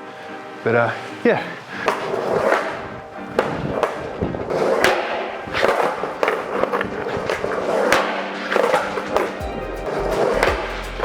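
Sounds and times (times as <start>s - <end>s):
skateboard wheels rolling on concrete: 0.0s - 11.0s
skateboard clacking on ground: 1.4s - 11.0s.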